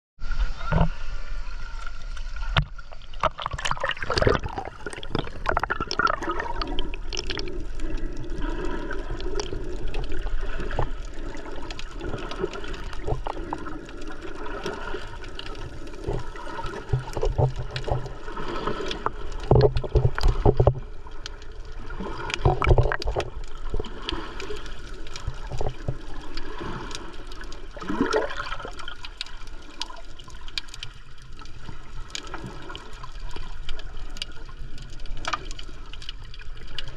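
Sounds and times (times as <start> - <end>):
water gurgling and sloshing: 0.2 - 36.9.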